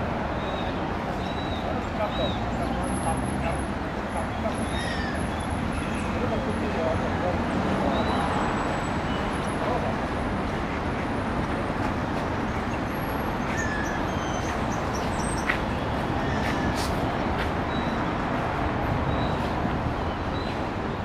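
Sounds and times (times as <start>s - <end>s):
city road traffic: 0.0s - 21.0s.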